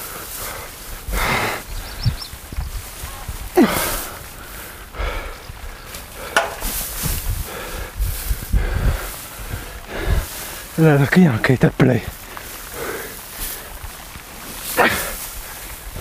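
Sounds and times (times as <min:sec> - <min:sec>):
hay bales rustling and scraping: 0:00.0 - 0:16.0.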